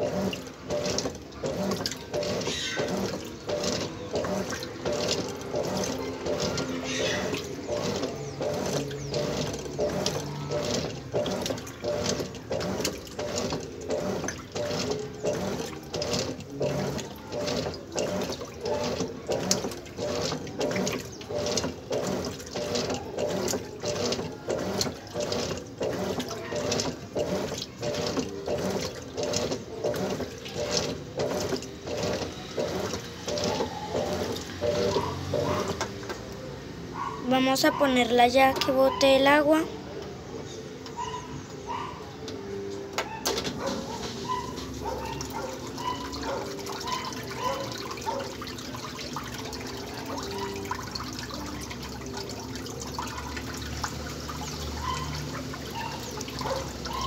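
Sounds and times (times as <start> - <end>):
washing machine agitator sloshing: 0.0 - 57.0.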